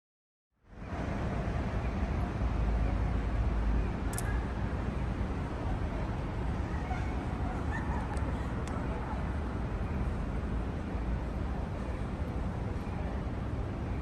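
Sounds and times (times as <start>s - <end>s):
traffic rumble: 0.7s - 14.0s.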